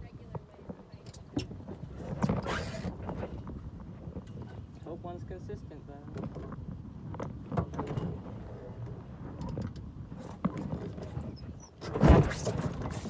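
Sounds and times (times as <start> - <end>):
rumble of wind and water: 0.0 - 13.0.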